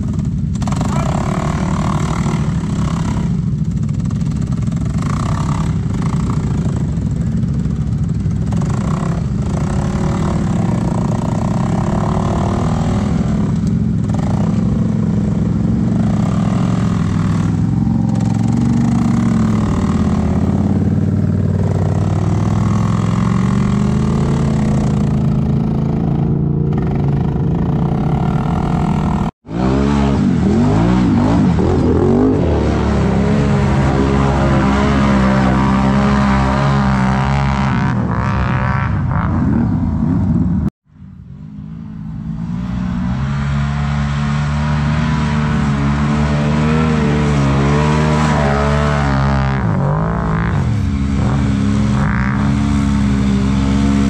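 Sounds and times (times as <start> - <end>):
atv engine revving: 0.0 - 40.7, 41.3 - 54.0.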